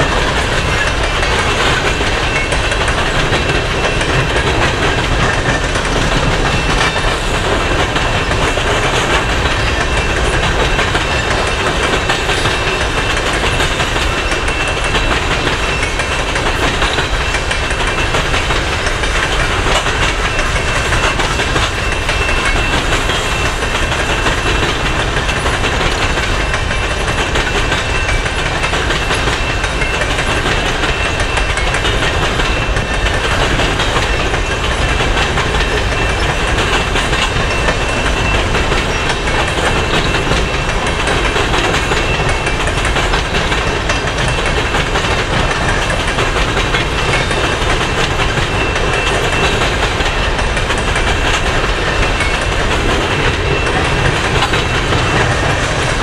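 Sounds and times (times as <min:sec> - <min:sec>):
rumbling freight cars: 0:00.0 - 0:56.0
train wheels clattering over rails: 0:00.0 - 0:56.0.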